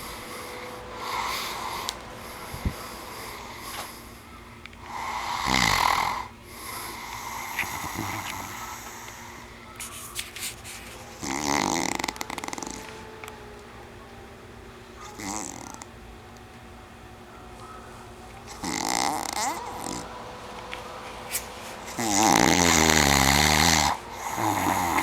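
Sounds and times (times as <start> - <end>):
man snoring: 0.0 - 9.6, 10.9 - 14.3, 14.9 - 15.9, 17.6 - 25.0.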